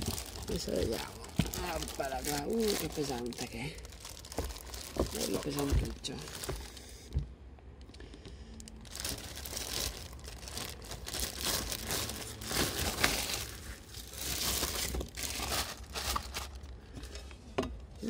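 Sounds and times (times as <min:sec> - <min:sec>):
plastic bag crinkling: 0:00.0 - 0:07.0, 0:08.7 - 0:17.2.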